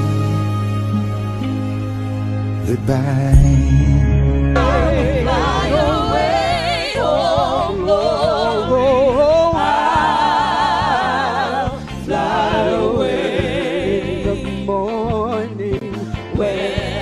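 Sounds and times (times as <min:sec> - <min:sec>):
slow sung ballad: 0:00.0 - 0:17.0.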